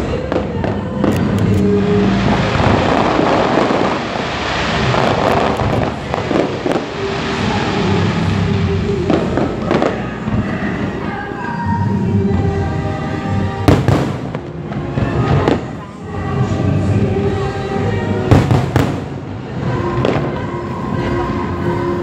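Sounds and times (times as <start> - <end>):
fireworks crackling and banging: 0.0 - 21.8.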